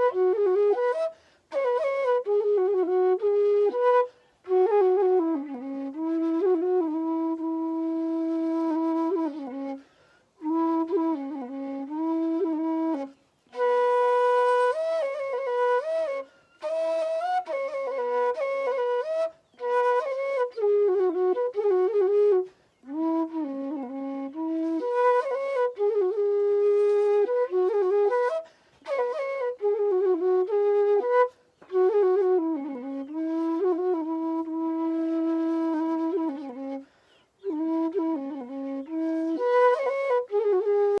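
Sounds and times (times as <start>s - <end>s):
solo flute folk melody: 0.0s - 41.0s.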